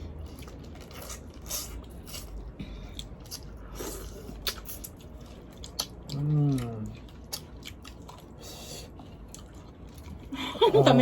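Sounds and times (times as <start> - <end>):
wet chewing: 0.0 - 10.3.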